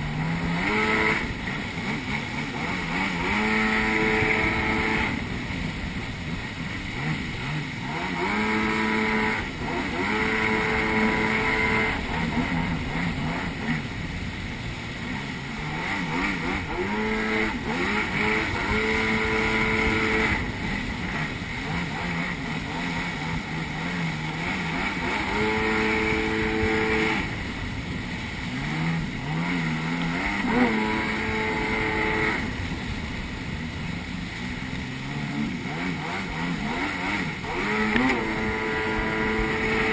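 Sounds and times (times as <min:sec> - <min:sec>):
jet ski engine running: 0:00.0 - 0:39.9
water spraying off hull: 0:00.0 - 0:39.9.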